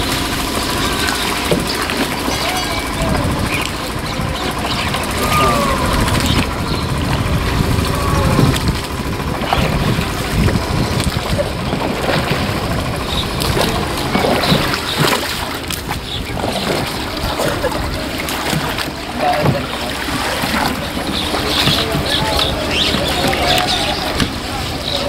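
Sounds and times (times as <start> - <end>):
oars splashing in water: 0.0 - 25.0.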